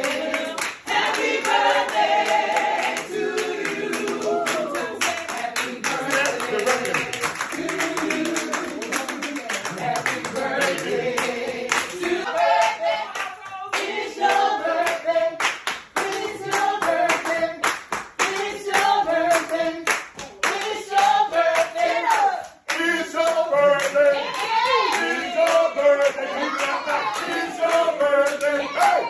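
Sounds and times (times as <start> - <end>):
people clapping in rhythm: 0.0 - 29.0
voices singing: 0.0 - 29.0.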